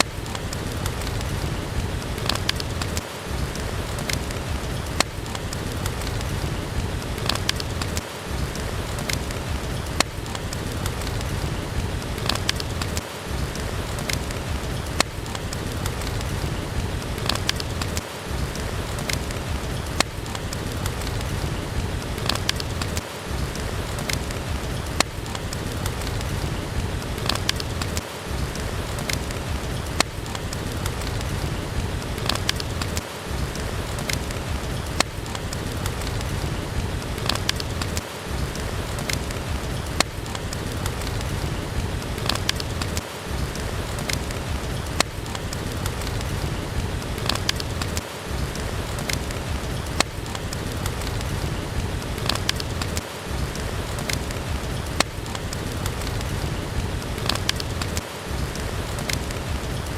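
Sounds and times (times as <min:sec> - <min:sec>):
steady rain falling: 0:00.0 - 0:59.9
wood fire crackling: 0:00.0 - 0:59.9.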